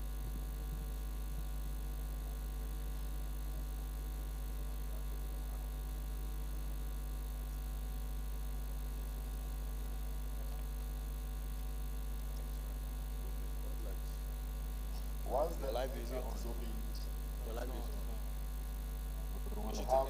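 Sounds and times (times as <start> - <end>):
low electrical mains hum: 0.0 - 20.0.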